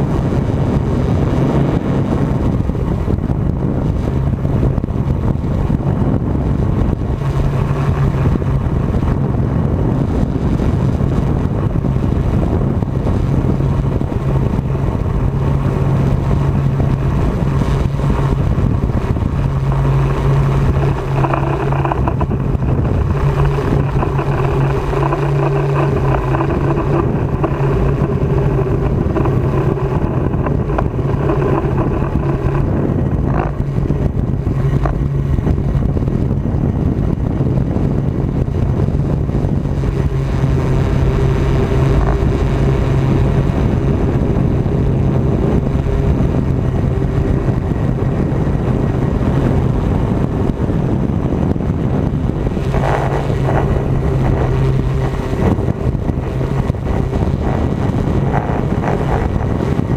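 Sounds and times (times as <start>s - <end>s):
drone propellers humming: 0.0s - 59.9s
wind rush: 0.0s - 59.9s.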